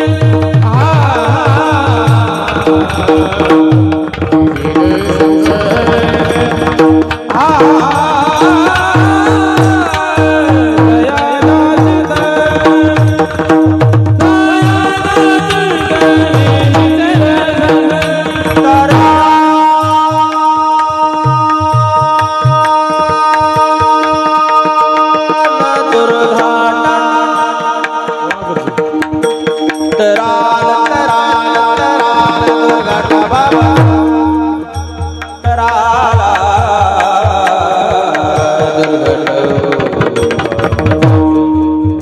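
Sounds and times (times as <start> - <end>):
person singing: 0.0 - 42.0.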